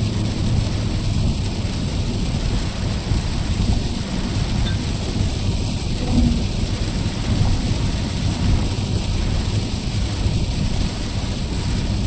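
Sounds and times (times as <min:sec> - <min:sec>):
car driving in rain: 0:00.0 - 0:12.0.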